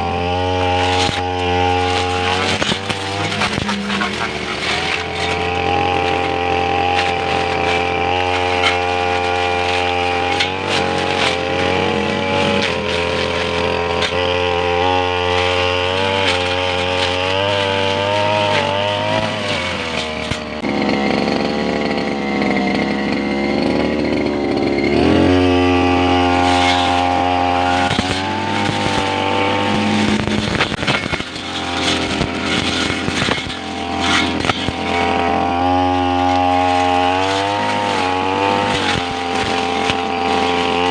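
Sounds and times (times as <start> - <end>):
brush cutter engine cutting grass: 0.0 - 40.9.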